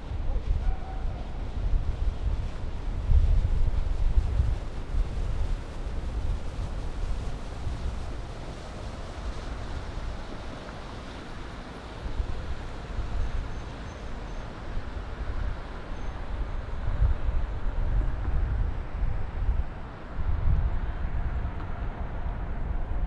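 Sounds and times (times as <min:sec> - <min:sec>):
wind buffeting microphone: 0:00.0 - 0:23.0
distant city traffic hum: 0:04.3 - 0:23.0.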